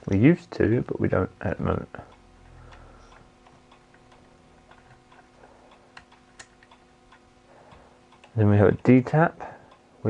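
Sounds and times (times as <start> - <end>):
light ticking: 0.0 - 10.0
low electrical hum: 0.0 - 10.0.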